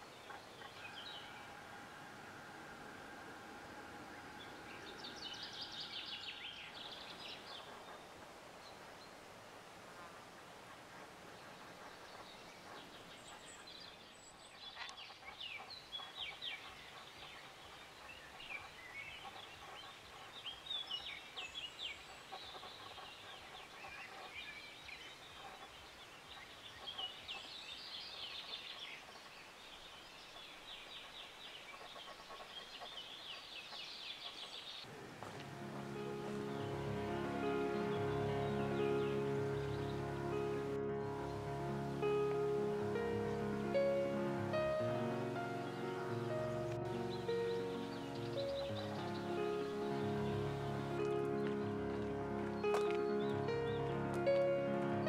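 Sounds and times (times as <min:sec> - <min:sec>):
small birds chirping: 0:00.0 - 0:09.4, 0:10.7 - 0:54.6
faint outdoor hiss: 0:00.0 - 0:55.0.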